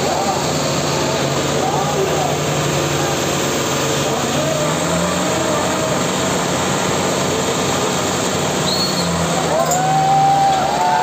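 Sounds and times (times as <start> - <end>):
tractor diesel engines at full throttle: 0.0 - 11.0.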